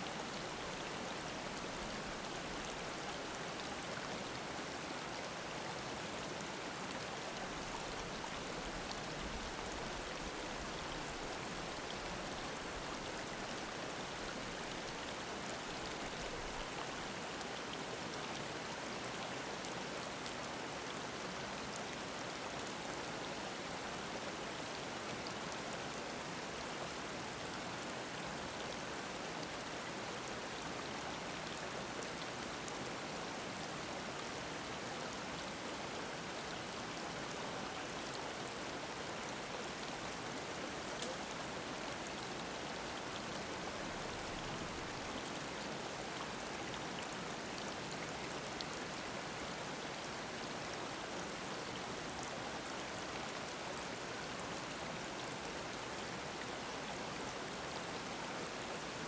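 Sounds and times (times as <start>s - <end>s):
stream babbling over rocks: 0.0s - 59.0s.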